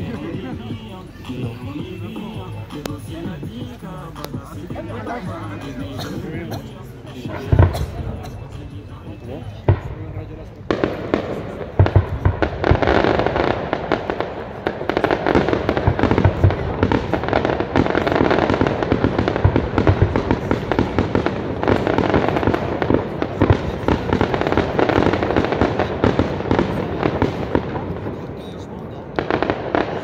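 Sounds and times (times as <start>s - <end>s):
fireworks booming and crackling: 0.0s - 30.0s.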